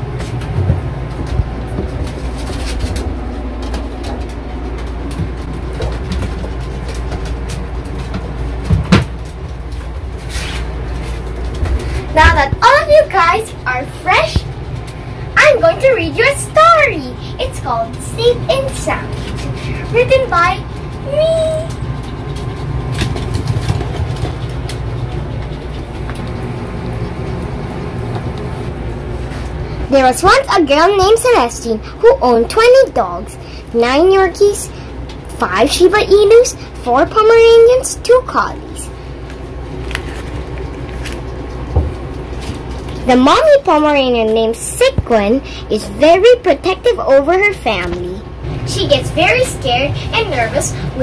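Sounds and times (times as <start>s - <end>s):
air conditioner humming: 0.0s - 51.0s
low background rumble: 0.0s - 51.0s.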